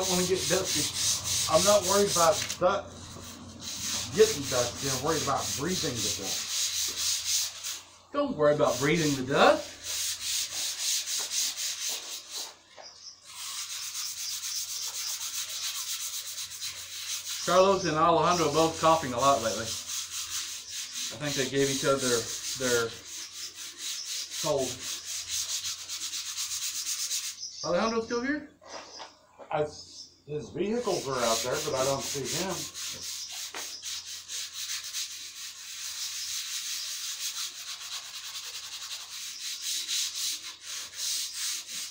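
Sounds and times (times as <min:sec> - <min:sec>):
sandpaper rubbing on wood: 0:00.0 - 0:27.4, 0:30.6 - 0:41.9.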